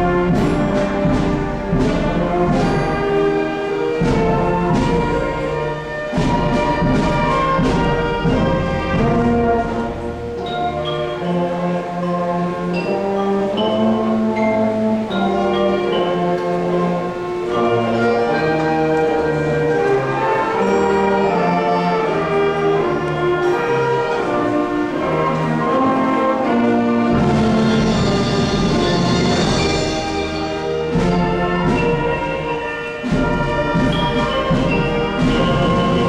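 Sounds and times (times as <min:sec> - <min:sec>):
bell-like tuned percussion: 0:00.0 - 0:36.0
orchestral music: 0:00.0 - 0:36.0.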